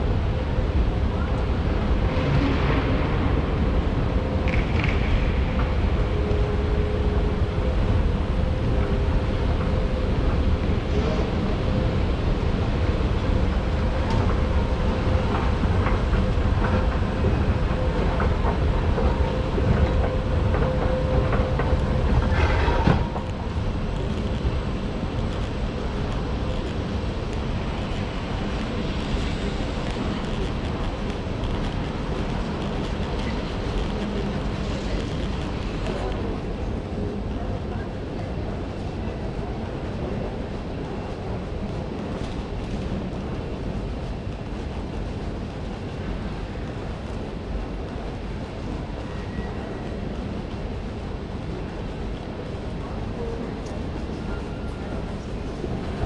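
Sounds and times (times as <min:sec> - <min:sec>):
escalator rumble and hum: 0:00.0 - 0:56.0
railway station hall noise: 0:00.0 - 0:56.0.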